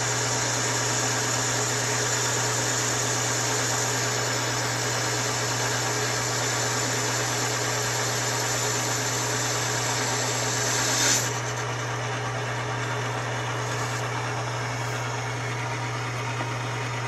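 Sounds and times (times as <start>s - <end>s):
cutting tool hissing on metal: 0.0s - 15.3s
lathe humming: 0.0s - 17.0s.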